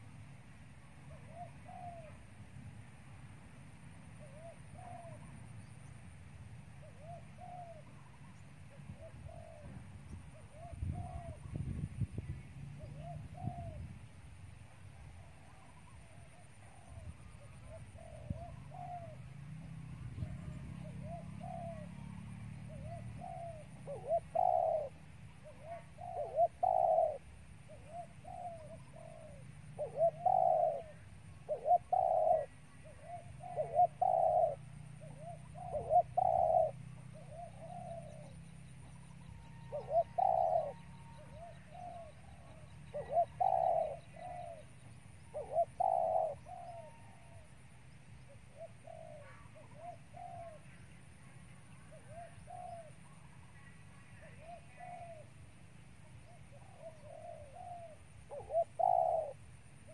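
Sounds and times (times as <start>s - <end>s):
dove cooing: 0.9s - 2.2s, 4.2s - 5.5s, 6.8s - 11.8s, 12.8s - 14.0s, 15.1s - 47.6s, 48.2s - 55.5s, 56.1s - 59.9s.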